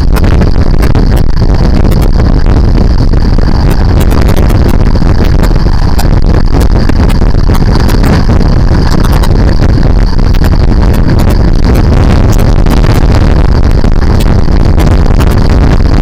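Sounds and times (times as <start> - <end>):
motorcycle engine running: 0.0 - 15.8
wind rumble on microphone: 0.0 - 16.0.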